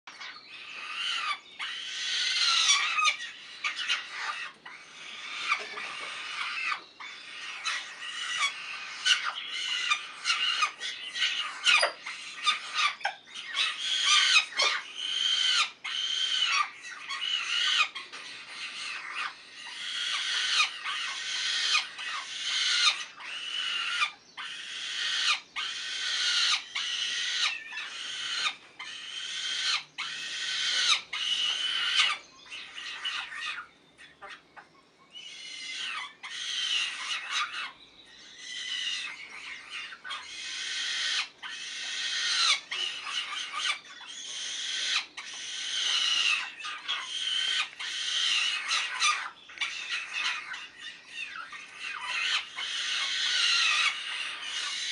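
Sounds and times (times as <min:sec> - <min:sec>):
nestling sparrows begging calls: 0:00.1 - 0:54.9.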